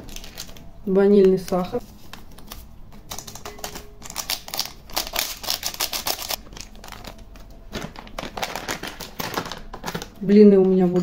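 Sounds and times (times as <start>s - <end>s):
paper sachet rustling and tapping: 0.0s - 10.2s.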